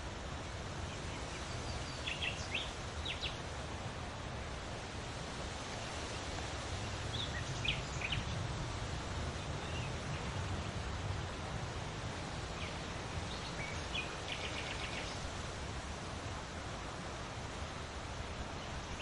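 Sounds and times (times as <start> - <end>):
wind blowing with low rumble: 0.0 - 19.0.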